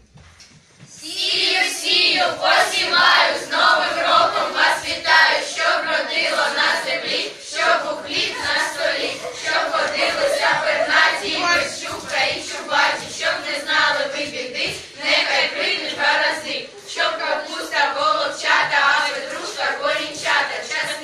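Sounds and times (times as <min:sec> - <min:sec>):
children singing in chorus: 0:01.0 - 0:21.0.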